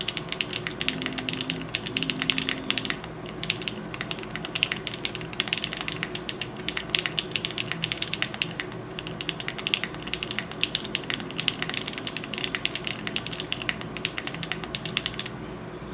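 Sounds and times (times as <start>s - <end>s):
mechanical keyboard typing: 0.0s - 15.4s.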